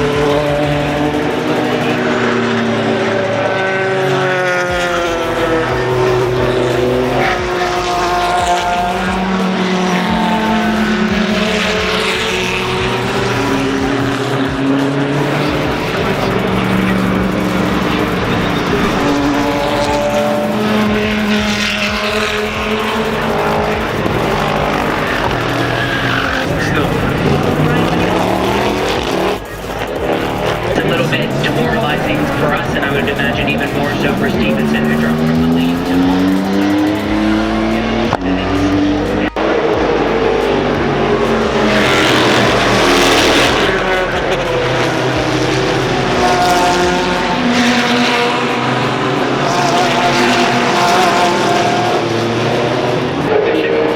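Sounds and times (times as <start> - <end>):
race car engines: 0.0 - 53.9
race car passing by: 0.0 - 53.9.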